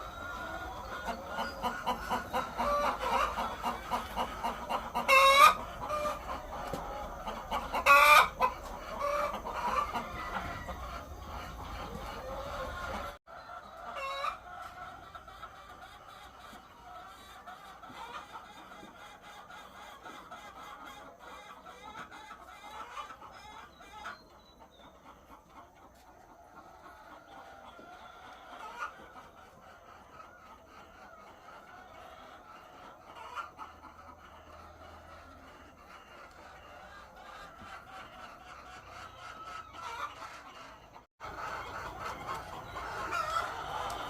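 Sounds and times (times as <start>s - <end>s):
hens clucking: 0.0s - 44.0s.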